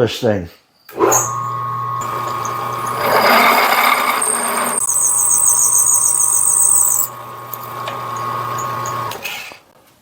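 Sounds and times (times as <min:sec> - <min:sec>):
high pulsing drill squeal: 0:00.9 - 0:09.5
drill press motor hum: 0:00.9 - 0:09.7
drill bit cutting metal: 0:01.0 - 0:09.6.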